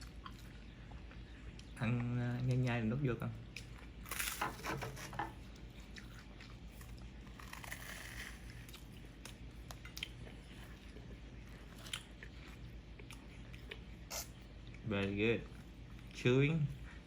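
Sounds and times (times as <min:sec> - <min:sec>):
low steady hum: 0:00.0 - 0:17.0
toddler chewing food: 0:00.0 - 0:17.0.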